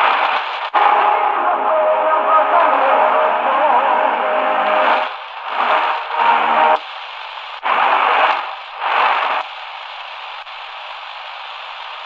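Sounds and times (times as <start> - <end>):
radio static hiss: 0.0 - 1.7, 2.6 - 12.0.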